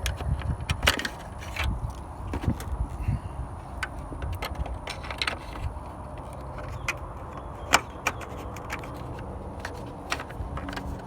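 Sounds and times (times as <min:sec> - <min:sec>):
plastic parts clicking into place: 0:00.0 - 0:02.8, 0:03.8 - 0:11.0.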